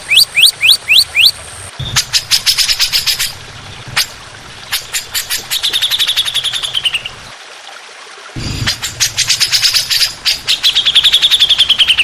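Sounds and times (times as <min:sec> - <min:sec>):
songbird chattering song: 0:00.0 - 0:07.3, 0:08.4 - 0:12.0.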